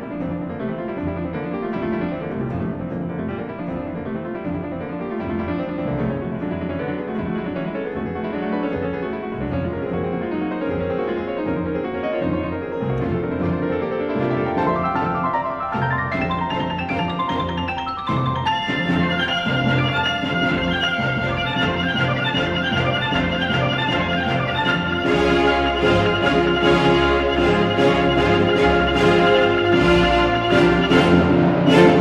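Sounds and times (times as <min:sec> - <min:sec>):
classical piano piece: 0:00.0 - 0:32.0.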